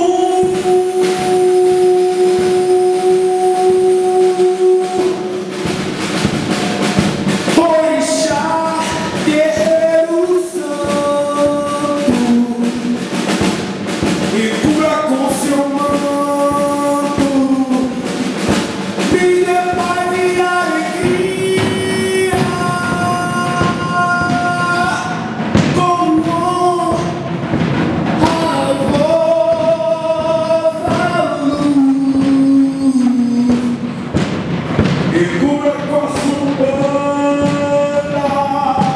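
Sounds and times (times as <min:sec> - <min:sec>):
person singing long notes: 0:00.0 - 0:05.9, 0:07.5 - 0:13.4, 0:14.3 - 0:27.3, 0:28.1 - 0:38.9
busy drumming: 0:00.0 - 0:38.9
live band playing loud music: 0:00.0 - 0:38.9.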